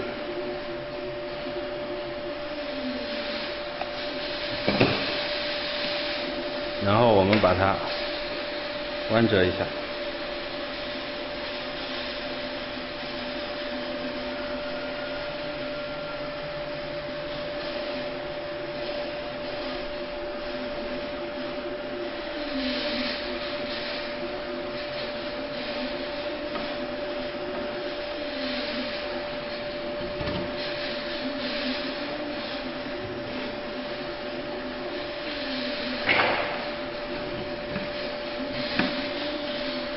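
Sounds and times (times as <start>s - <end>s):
mid-pitched hum: 0.0s - 39.9s.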